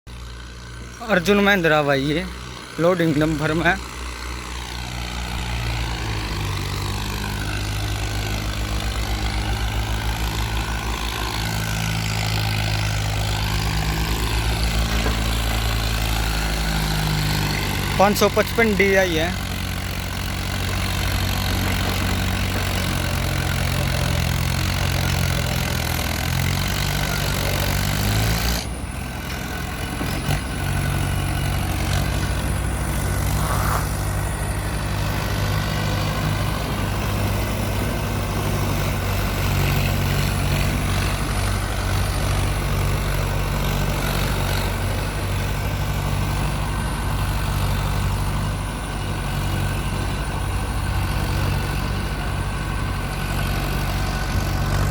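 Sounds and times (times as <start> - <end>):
tractor diesel engine running: 0.1 - 54.9.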